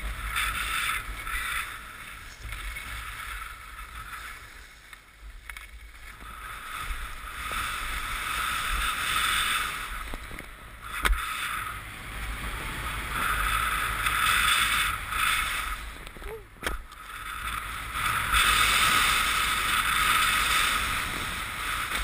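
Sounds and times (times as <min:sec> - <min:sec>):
skis hissing over snow: 0:00.0 - 0:22.0
wind rumble on microphone: 0:00.0 - 0:22.0.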